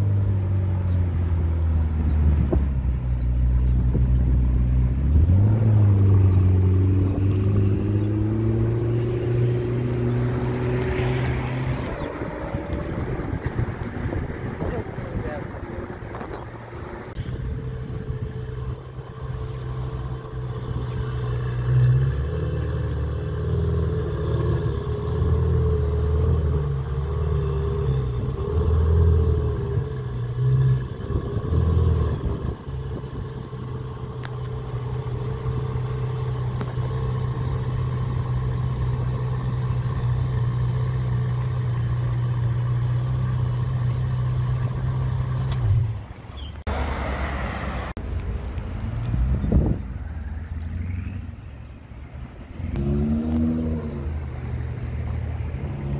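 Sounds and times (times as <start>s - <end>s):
car engine revving and idling: 0.0s - 47.0s, 48.9s - 55.9s.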